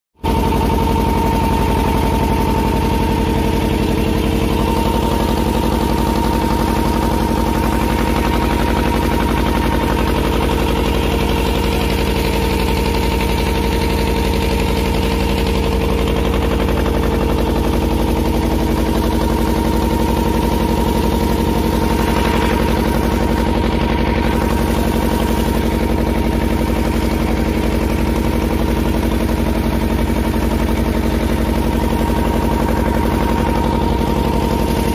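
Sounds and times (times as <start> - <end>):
motor boat engine running: 0.2 - 34.9.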